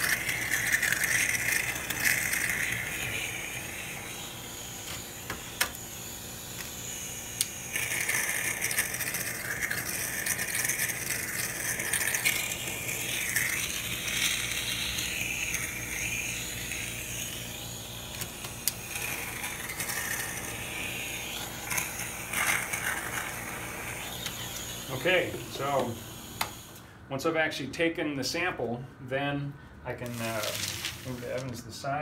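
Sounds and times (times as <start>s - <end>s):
wet vacuum spraying and sucking: 0.0s - 26.8s, 30.0s - 31.4s.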